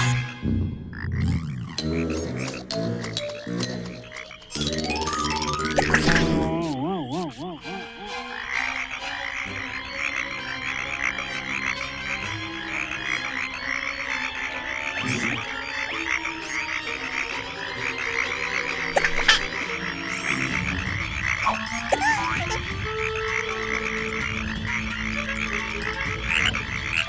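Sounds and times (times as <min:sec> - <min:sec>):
frogs croaking: 0:00.0 - 0:27.0
soft sustained music: 0:01.9 - 0:27.0.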